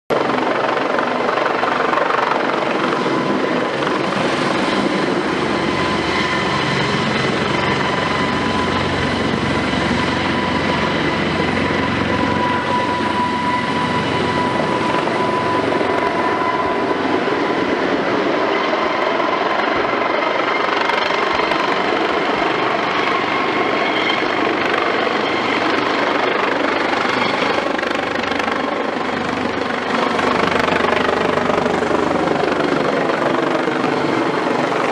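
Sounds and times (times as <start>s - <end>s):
helicopter rotor noise: 0.1s - 34.9s
turbine engine whine: 0.1s - 34.9s.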